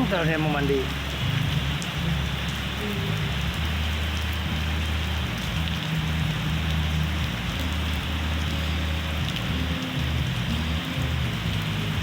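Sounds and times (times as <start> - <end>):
raindrop ticks: 0.0 - 12.0
steady rain falling: 0.0 - 12.0.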